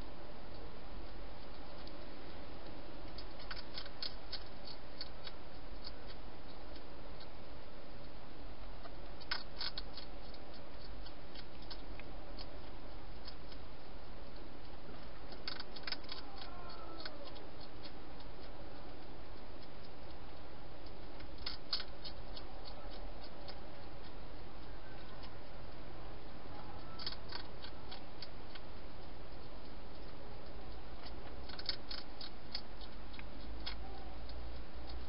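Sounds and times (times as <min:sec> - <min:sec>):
hedgehog crunching food: 0:00.2 - 0:35.0.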